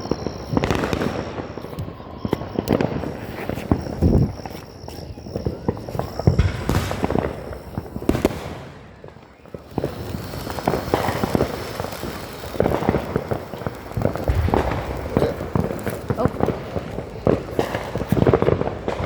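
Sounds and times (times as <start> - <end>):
fireworks popping and crackling: 0.0 - 19.0.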